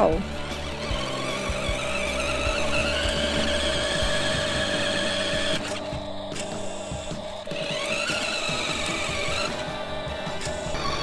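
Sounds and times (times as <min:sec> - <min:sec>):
toy electric motor whining: 0:00.0 - 0:11.0
wheels rumbling on concrete: 0:00.0 - 0:11.0.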